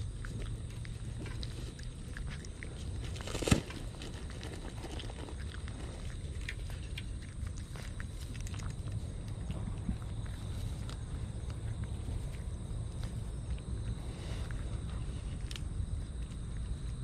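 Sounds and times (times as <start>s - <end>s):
kitten chewing and licking food: 0.0s - 17.0s.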